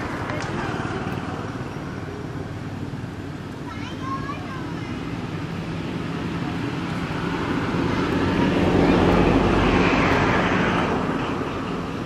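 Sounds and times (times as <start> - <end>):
motor vehicle passing by: 0.0 - 12.0.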